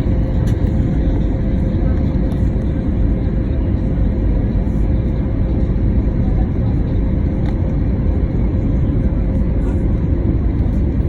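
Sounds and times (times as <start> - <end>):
low rumble of jet engines and airflow: 0.0 - 11.0.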